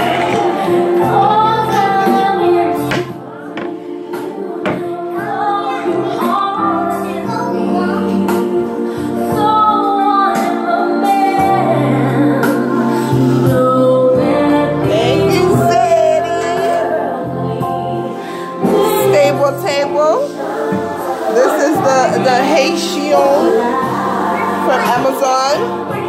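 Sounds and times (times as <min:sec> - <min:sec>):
gospel music with singing voices: 0:00.0 - 0:26.0.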